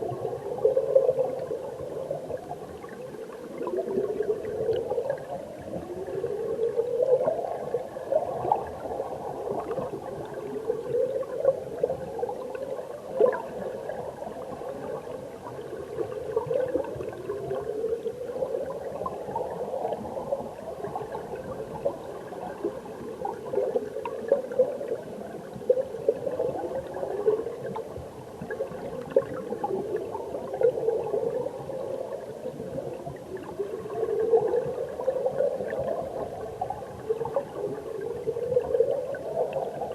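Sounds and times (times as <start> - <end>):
stream water heard underwater: 0.0 - 39.9.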